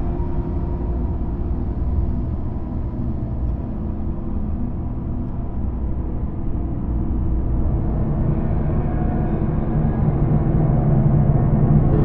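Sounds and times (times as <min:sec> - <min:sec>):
deep ambient drone: 0:00.0 - 0:12.0.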